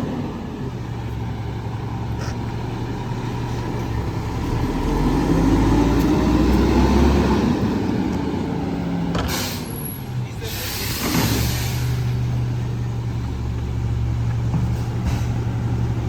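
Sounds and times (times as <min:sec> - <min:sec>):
garbage truck diesel engine: 0:00.0 - 0:16.0.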